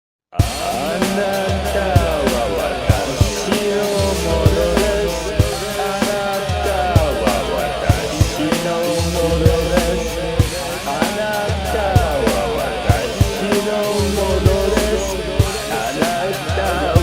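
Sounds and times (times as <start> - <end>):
drum kit steady beat: 0.4 - 17.0
rock band music: 0.4 - 17.0.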